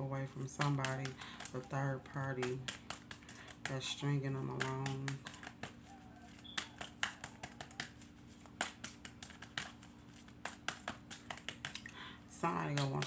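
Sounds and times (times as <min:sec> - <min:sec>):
faint steady hum: 0:00.0 - 0:13.0
cards being shuffled and flicked: 0:00.2 - 0:13.0.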